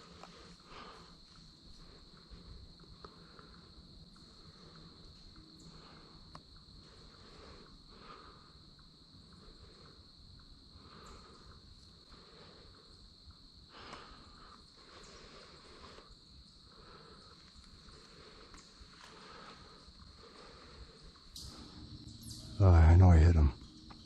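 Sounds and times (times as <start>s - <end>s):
faint woodland background: 0.0s - 24.0s
insects trilling: 0.0s - 24.0s.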